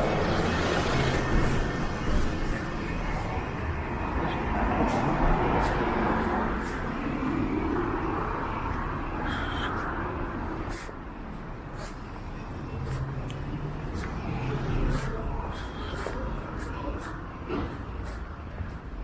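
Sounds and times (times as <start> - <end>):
road traffic: 0.0 - 19.0
vehicle passing: 0.0 - 19.0.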